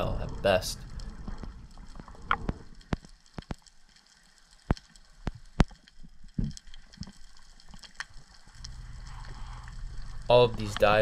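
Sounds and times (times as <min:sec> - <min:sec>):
underwater clicks and snaps: 0:00.3 - 0:11.0.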